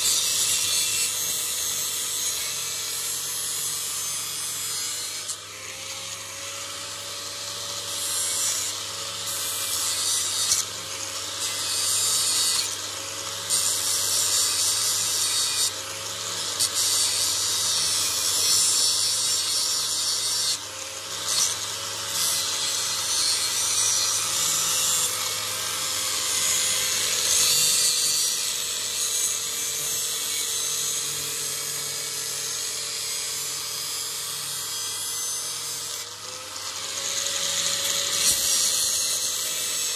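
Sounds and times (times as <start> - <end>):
electric grinder humming: 0.0 - 39.9
knife blade grinding on wheel: 0.0 - 39.9.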